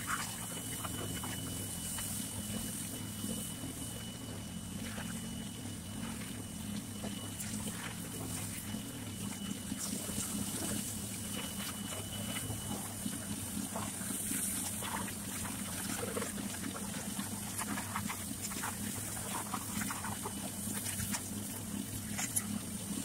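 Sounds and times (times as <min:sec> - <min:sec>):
water jet hissing and spattering: 0:00.0 - 0:23.0.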